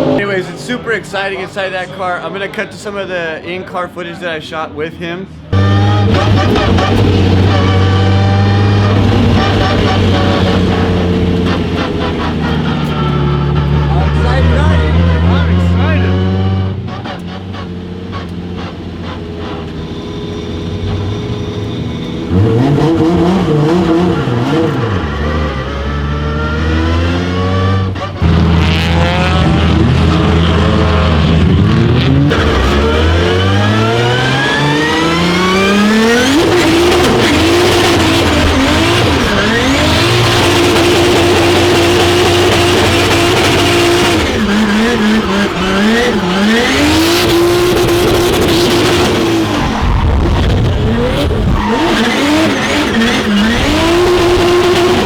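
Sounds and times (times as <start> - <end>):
car engine revving: 5.5 - 55.0.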